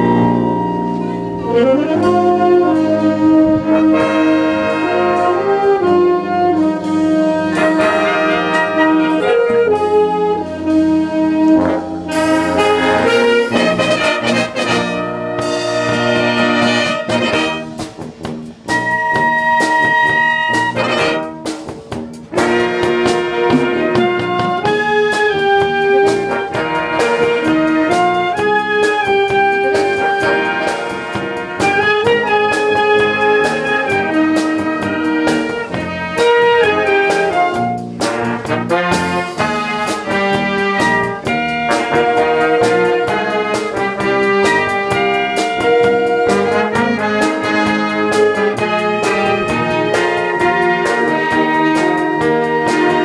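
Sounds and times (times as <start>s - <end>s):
concert band playing pop tune: 0.0s - 53.0s.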